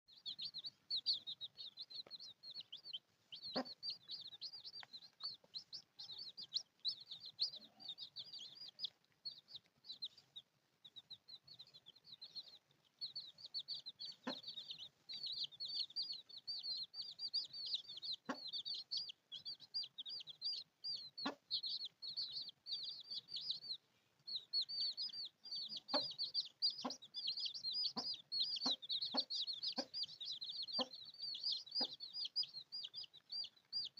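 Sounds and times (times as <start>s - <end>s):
baby chicks peeping: 0.1s - 33.9s.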